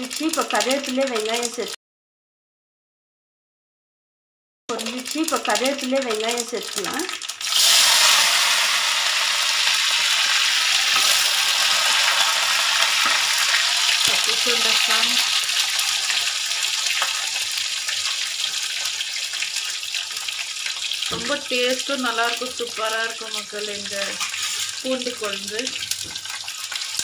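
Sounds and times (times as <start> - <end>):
food sizzling in hot oil: 0.0 - 1.8, 4.7 - 27.0.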